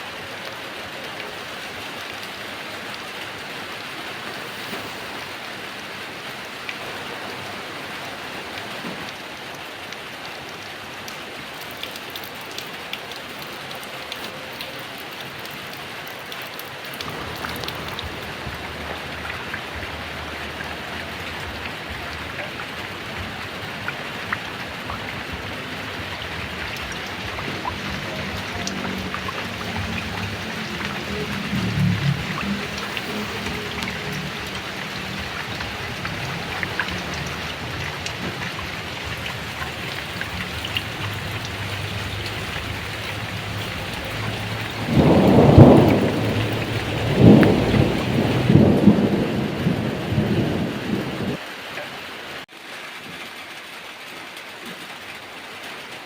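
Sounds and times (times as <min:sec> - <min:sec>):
heavy rain: 0:00.0 - 0:56.0
raindrops ticking: 0:01.2 - 0:51.4.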